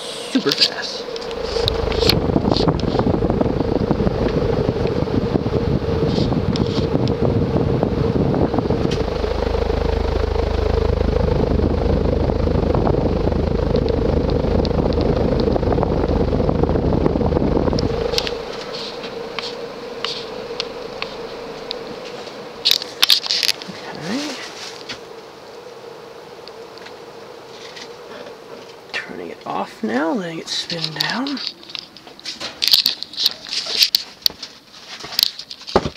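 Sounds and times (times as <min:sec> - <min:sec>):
air rushing from fan blades: 0:00.0 - 0:29.3
ceiling fan motor hum: 0:00.0 - 0:35.9
wind buffeting microphone: 0:00.8 - 0:31.7.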